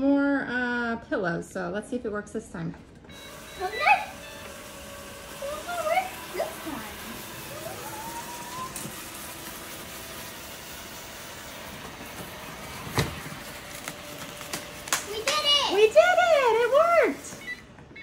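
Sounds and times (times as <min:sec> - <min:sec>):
robot vacuum running: 0:02.8 - 0:18.0.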